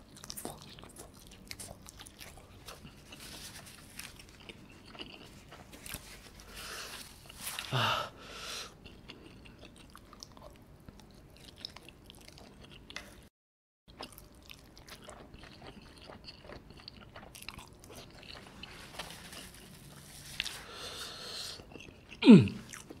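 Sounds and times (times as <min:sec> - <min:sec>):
man chewing with mouth sounds: 0:00.0 - 0:13.3, 0:13.9 - 0:23.0.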